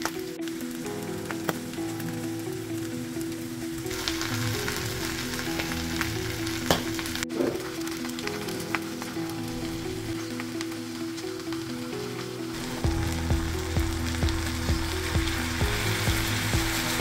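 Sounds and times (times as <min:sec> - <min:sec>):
background music stepping tones: 0:00.0 - 0:17.0
food sizzling in hot oil: 0:00.0 - 0:17.0.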